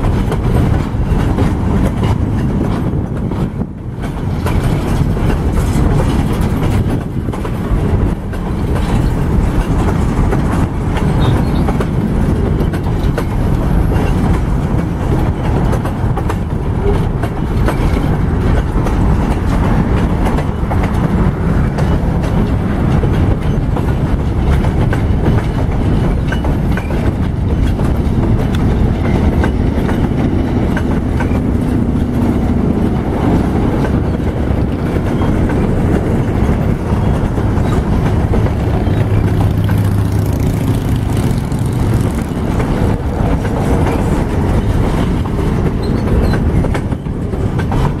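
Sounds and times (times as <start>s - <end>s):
train wheels rumbling on rails: 0.0s - 48.0s
wheels clicking over rail joints: 0.0s - 48.0s.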